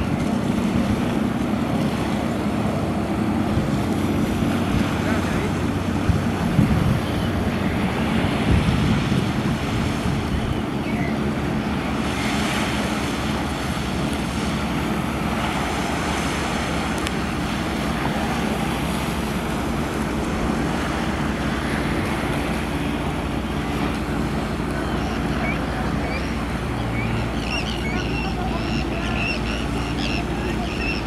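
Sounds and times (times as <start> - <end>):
wind on microphone: 0.0 - 28.0
boat engine drone: 0.0 - 31.0.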